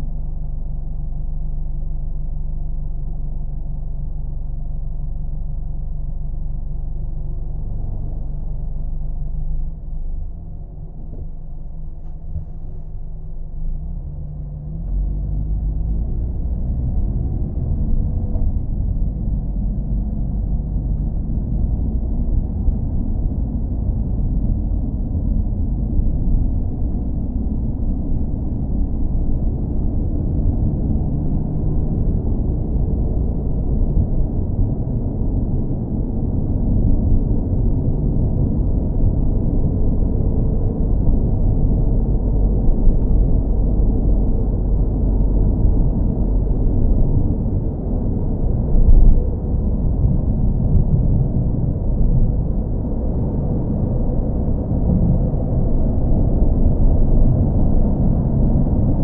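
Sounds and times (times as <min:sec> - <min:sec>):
car engine rumble: 0:00.0 - 0:59.0
road noise: 0:03.7 - 0:59.0.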